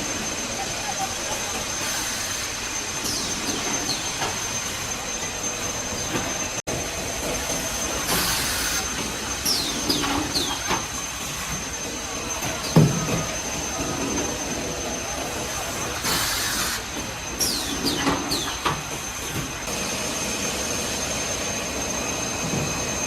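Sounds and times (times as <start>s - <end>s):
factory machinery whine: 0.0s - 23.0s.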